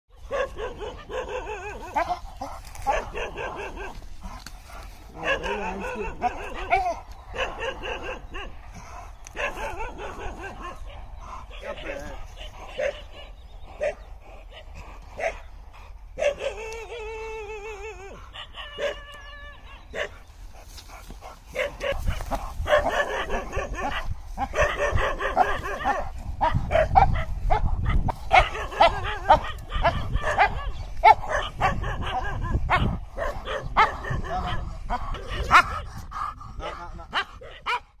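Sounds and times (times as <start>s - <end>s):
dog barking: 0.1s - 14.6s, 15.2s - 15.5s, 16.2s - 16.7s, 18.4s - 20.2s, 21.0s - 35.9s, 36.6s - 38.0s.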